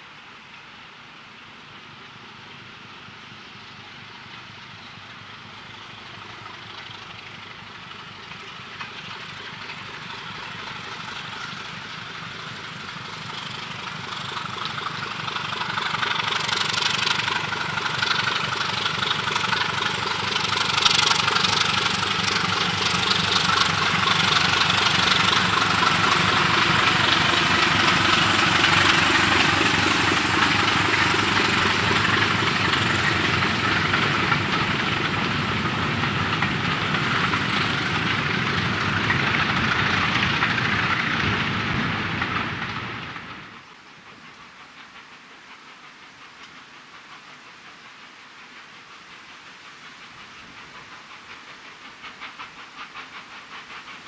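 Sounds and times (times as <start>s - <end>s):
diesel locomotive engine: 0.0s - 54.0s
train passing on rails: 0.0s - 54.0s.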